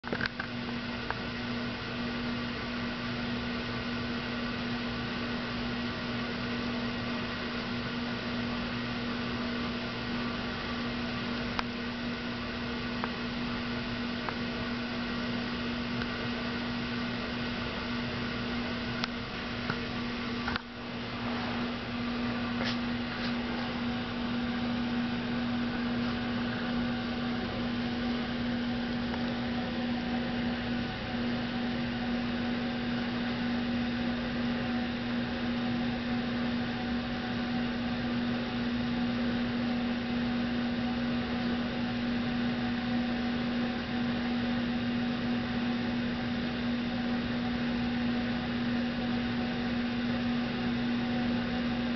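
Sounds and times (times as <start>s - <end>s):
indoor background hum: 0.0s - 51.9s.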